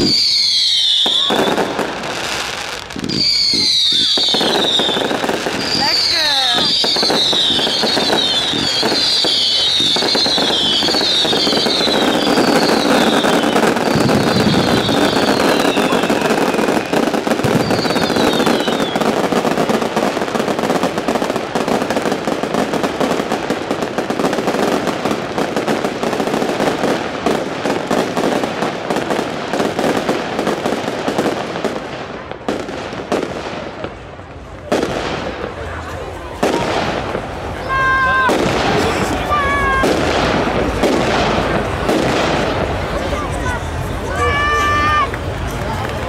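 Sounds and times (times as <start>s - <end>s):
fireworks crackling and banging: 0.0s - 46.0s
whistling fireworks falling in pitch: 0.0s - 46.0s.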